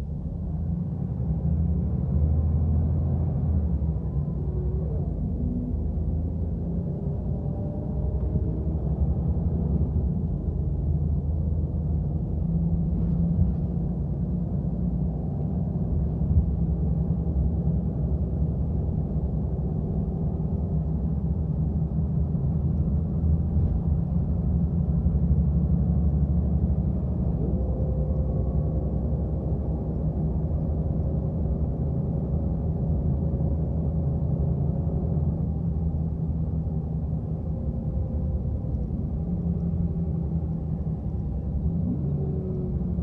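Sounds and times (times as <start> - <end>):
bus engine and tyre rumble: 0.0 - 43.0.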